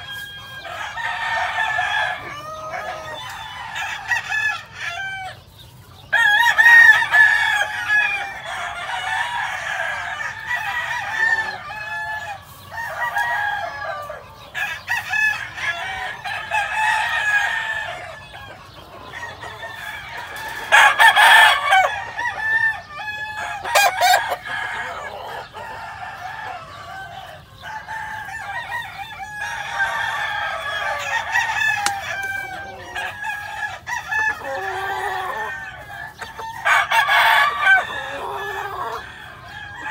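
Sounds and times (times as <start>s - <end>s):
chickens clucking: 0.0s - 39.9s
roosters crowing: 0.0s - 39.9s.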